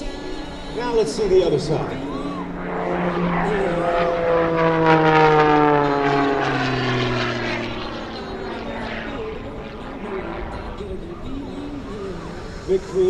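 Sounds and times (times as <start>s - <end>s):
propeller plane engine passing: 0.0s - 13.0s.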